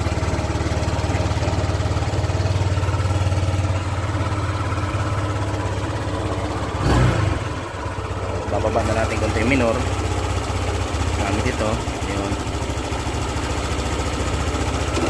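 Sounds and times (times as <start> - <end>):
scooter engine idling: 0.0 - 15.0.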